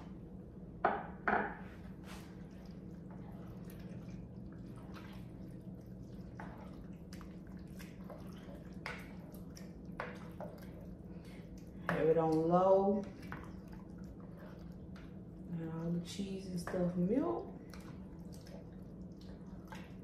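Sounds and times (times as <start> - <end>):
steady low hum: 0.0 - 20.0
utensil stirring thick food in pot: 2.2 - 20.0.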